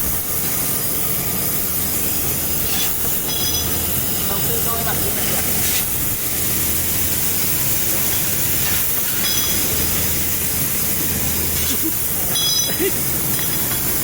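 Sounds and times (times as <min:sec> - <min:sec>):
machine hiss: 0:00.0 - 0:14.0.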